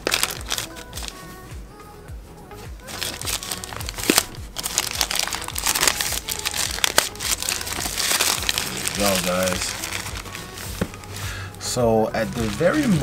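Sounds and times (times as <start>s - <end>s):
packaging crinkling: 0.0s - 1.2s, 2.8s - 11.4s, 12.1s - 13.0s.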